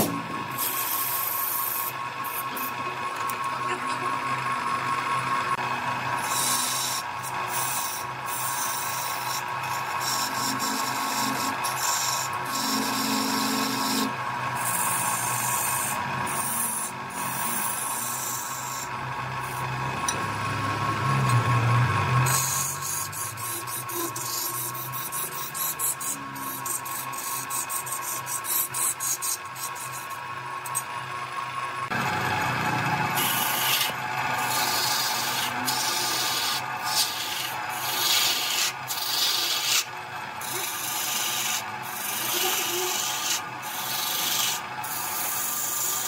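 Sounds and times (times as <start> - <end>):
turning tool scraping wood: 0.0 - 3.4, 5.5 - 20.3, 22.1 - 30.9, 32.6 - 46.0
wood lathe motor hum: 0.0 - 46.0.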